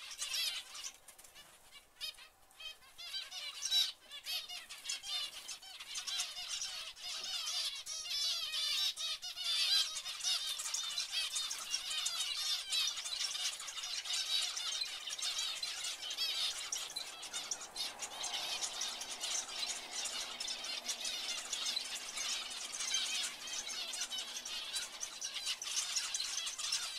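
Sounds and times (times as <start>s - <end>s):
finches chattering: 0.0s - 26.9s.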